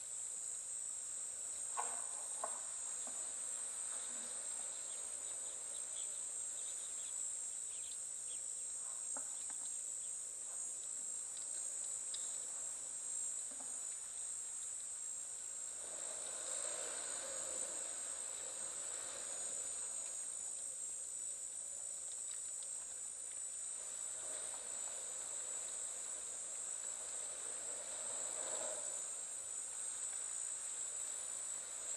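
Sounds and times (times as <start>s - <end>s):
insects droning: 0.0s - 31.9s.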